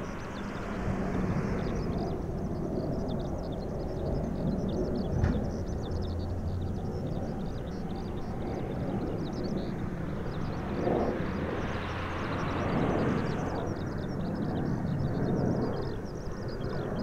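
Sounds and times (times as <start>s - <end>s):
distant jet rumble: 0.0s - 17.0s.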